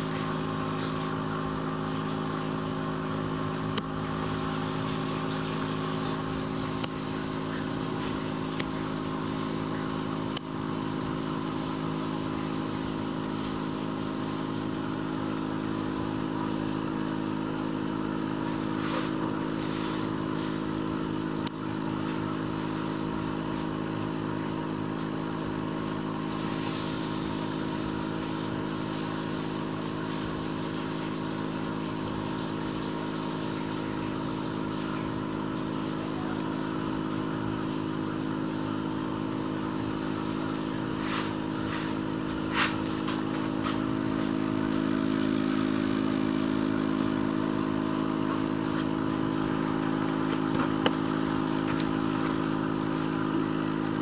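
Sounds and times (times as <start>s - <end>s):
air pump humming: 0.0s - 54.0s.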